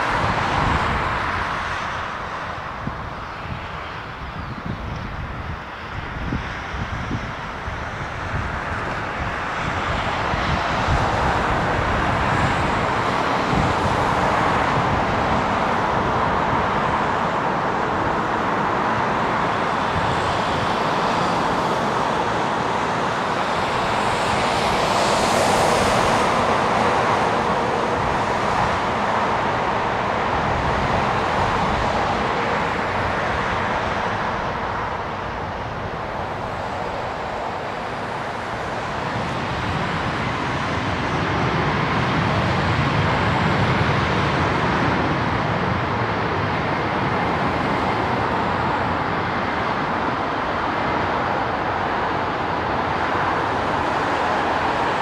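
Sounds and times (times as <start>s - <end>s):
jet aircraft and vehicles hum: 0.0s - 55.0s.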